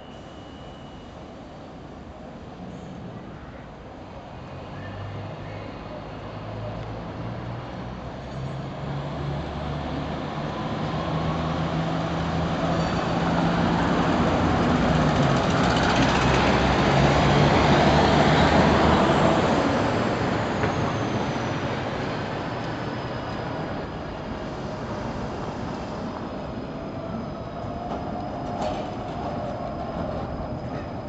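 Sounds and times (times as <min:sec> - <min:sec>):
tram rolling over rails: 0:00.0 - 0:31.0
diesel bus engine passing: 0:04.5 - 0:31.0.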